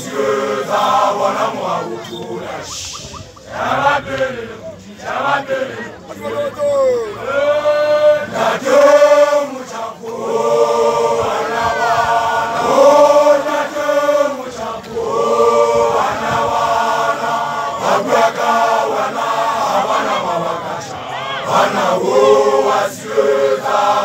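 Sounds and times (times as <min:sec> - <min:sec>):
group chanting in unison: 0:00.0 - 0:24.0.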